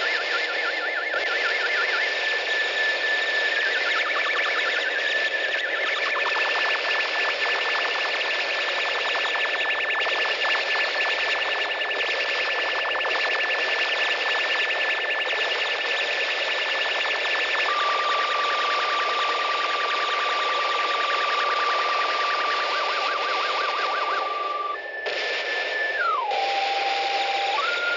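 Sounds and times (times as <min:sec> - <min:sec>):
high alarm-like tone: 0:00.0 - 0:27.9.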